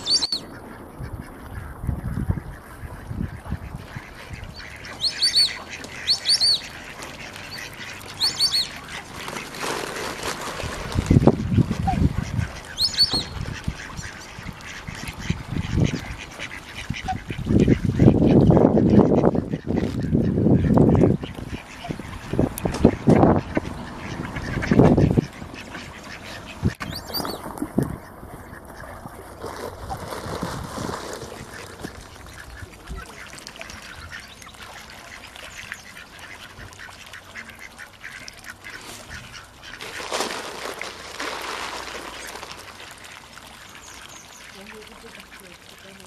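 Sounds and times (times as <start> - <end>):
ducks quacking: 0.0 - 30.0, 31.2 - 46.0.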